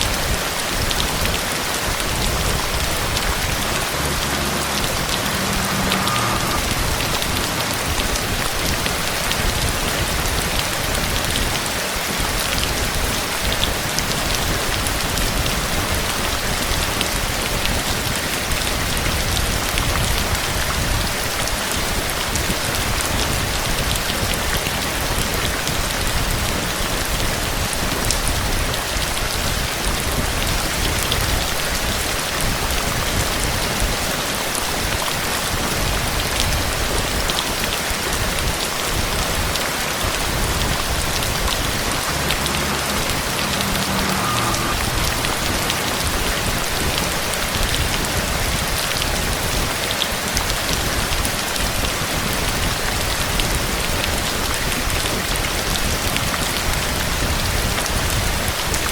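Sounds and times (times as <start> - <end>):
heavy rain hiss: 0.0 - 58.9
raindrops pattering on surface: 0.0 - 58.9.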